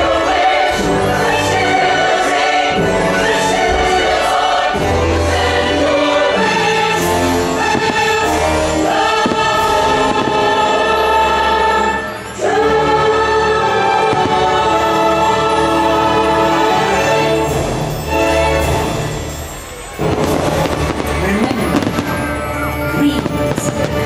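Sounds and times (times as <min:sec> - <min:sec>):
choir singing held chords: 0:00.0 - 0:24.0
orchestra playing: 0:00.0 - 0:24.0.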